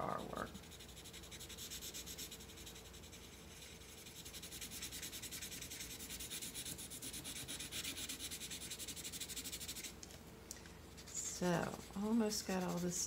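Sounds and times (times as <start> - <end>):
pencil scratching on paper: 0.0 - 9.9, 11.0 - 13.0.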